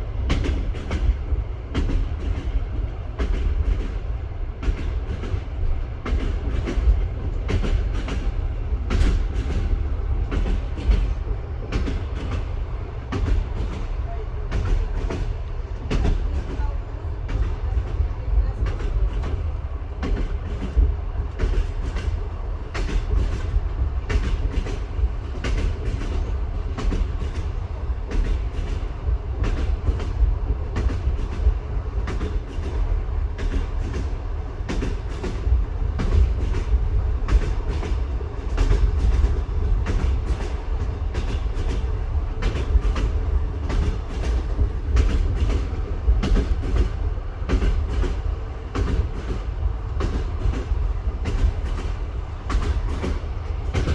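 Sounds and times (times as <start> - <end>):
train wheels clickety-clack: 0.0 - 53.9.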